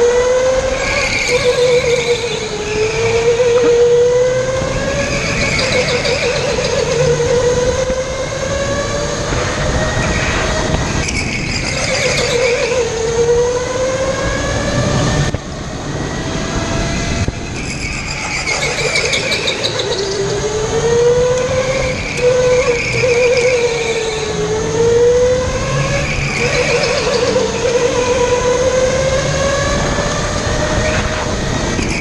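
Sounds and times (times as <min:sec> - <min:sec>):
electric go-kart motor whining: 0:00.0 - 0:32.0
kart rumbling on track: 0:00.0 - 0:32.0.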